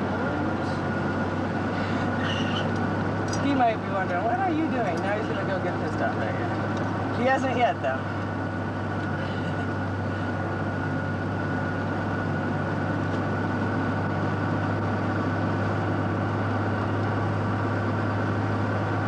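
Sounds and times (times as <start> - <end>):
vehicle engine hum from cabin: 0.0 - 19.0.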